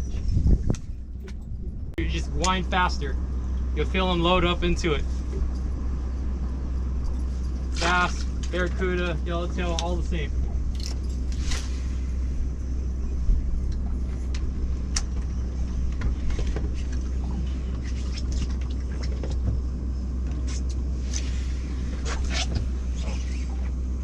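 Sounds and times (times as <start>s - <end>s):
boat engine rumbling: 0.0s - 24.0s.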